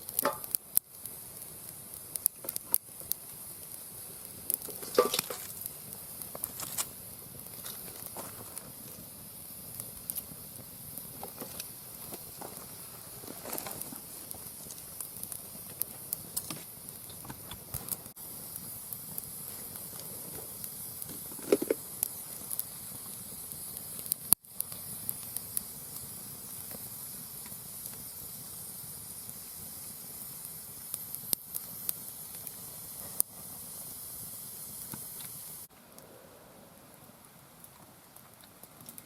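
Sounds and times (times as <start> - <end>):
firewood crackling and popping: 0.0 - 36.1, 36.8 - 39.0
fire hissing: 0.0 - 39.0.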